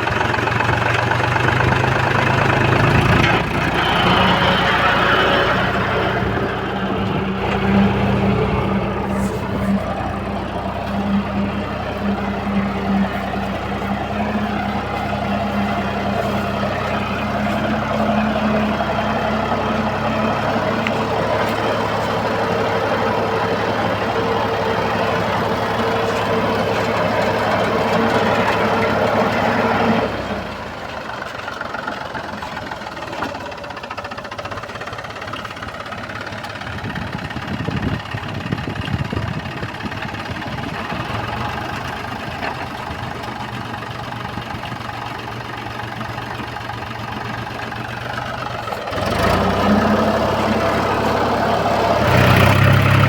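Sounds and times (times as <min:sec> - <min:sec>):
diesel tractor engine running: 0:00.0 - 0:53.0.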